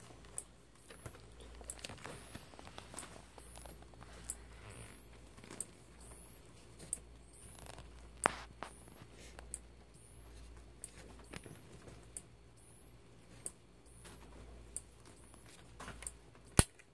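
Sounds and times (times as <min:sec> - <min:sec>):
soft clicks and ticks: 0:00.0 - 0:12.7, 0:13.3 - 0:16.7.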